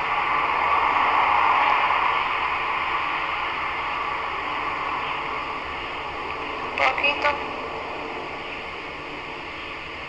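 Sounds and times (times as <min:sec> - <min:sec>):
steady static hiss: 0:00.0 - 0:10.0.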